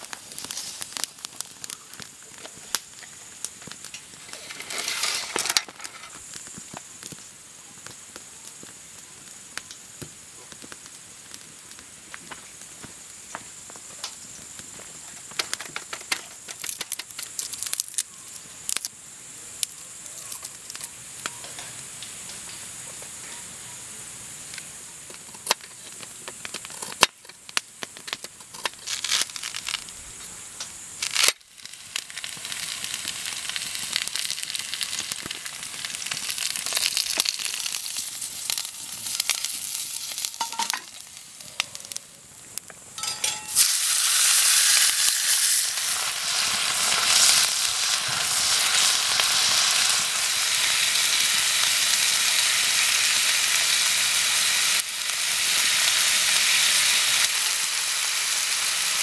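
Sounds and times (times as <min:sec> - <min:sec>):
food sizzling in a pan: 0:00.0 - 0:19.0, 0:19.7 - 0:59.0.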